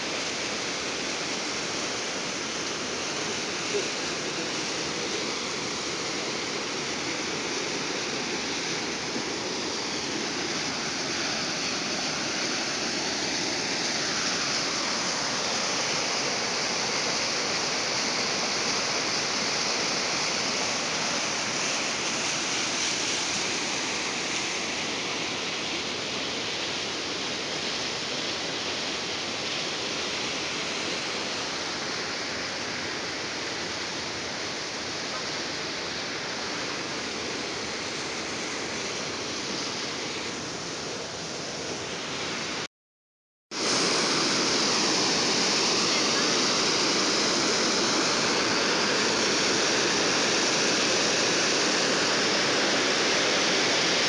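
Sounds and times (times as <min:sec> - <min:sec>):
waterfall rushing: 0:00.0 - 0:42.7, 0:43.5 - 0:54.0.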